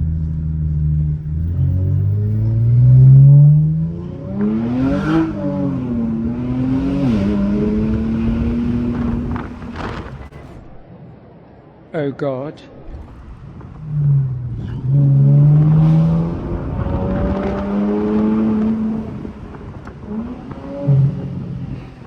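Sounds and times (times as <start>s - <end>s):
car engine accelerating hard: 0.0s - 10.3s, 13.0s - 22.0s.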